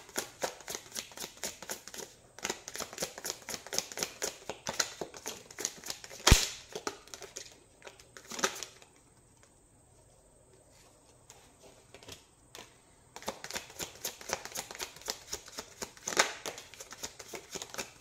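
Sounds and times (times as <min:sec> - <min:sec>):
cards being shuffled: 0:00.1 - 0:09.5, 0:11.2 - 0:18.0.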